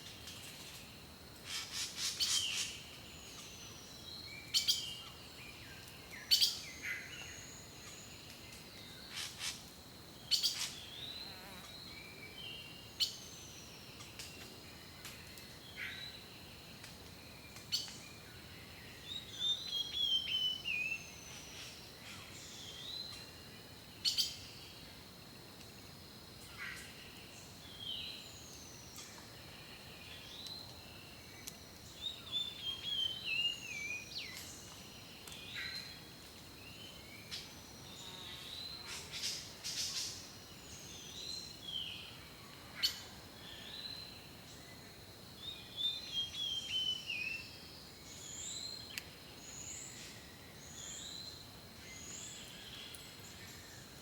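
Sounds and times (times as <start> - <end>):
songbirds singing and chirping: 0.0 - 24.9, 26.4 - 54.0.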